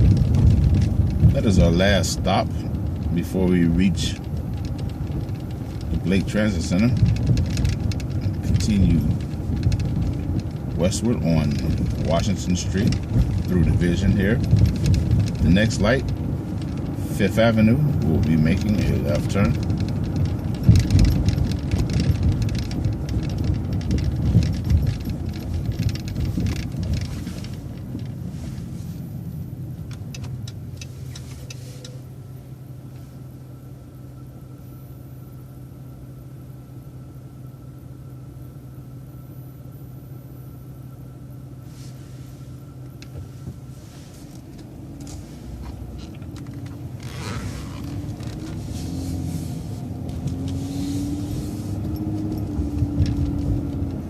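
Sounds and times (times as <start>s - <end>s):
bus engine revving: 0.0s - 32.5s, 41.7s - 54.0s
bus idling hum: 0.0s - 54.0s
bus road rumble and rattling: 0.0s - 54.0s.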